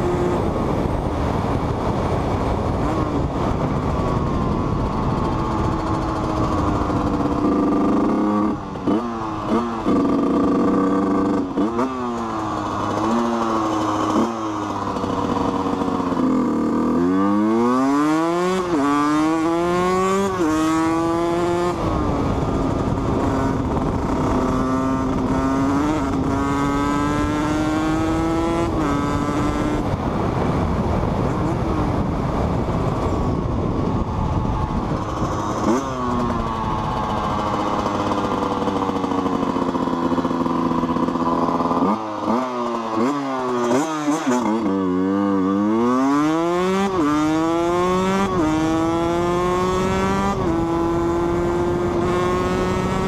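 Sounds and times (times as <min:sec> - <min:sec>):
wind rush on microphone: 0:00.0 - 0:17.5, 0:18.2 - 0:42.0, 0:44.6 - 0:53.0
dirt bike engine revving: 0:05.2 - 0:29.9, 0:34.7 - 0:53.0.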